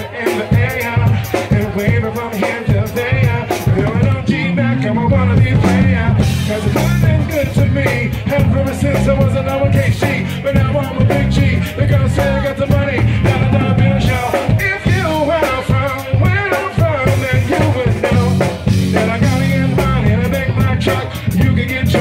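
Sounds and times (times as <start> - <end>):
heavy bass and beat: 0.0 - 22.0
hip-hop song with sung vocals: 0.0 - 22.0.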